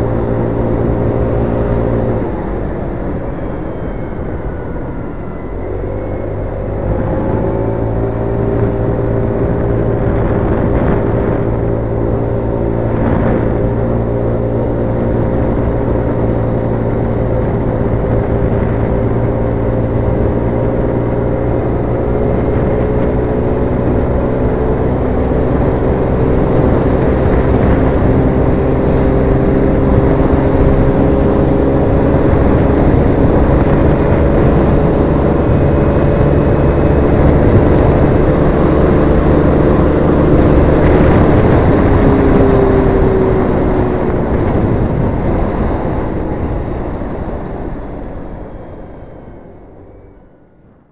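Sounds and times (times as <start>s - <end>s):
scooter engine running hard: 0.0s - 50.4s
wind rumbling on microphone: 0.0s - 50.9s.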